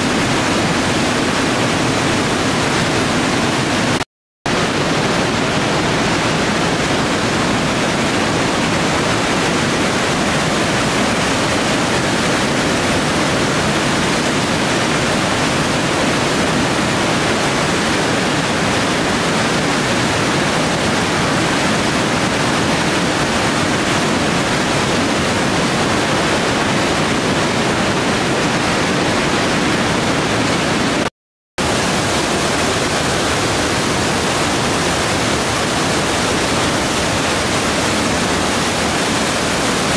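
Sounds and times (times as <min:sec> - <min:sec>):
waterfall rushing through gorge: 0:00.0 - 0:39.9.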